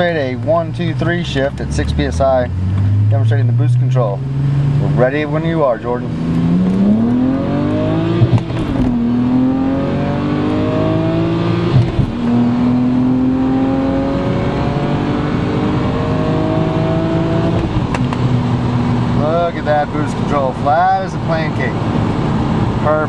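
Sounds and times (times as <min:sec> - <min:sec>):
car engine accelerating hard: 0:00.1 - 0:23.0.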